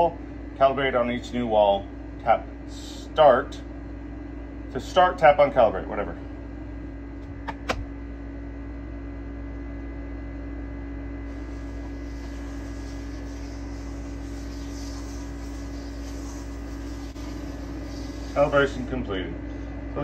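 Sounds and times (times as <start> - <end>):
low-mid tone hum: 0.0 - 20.0.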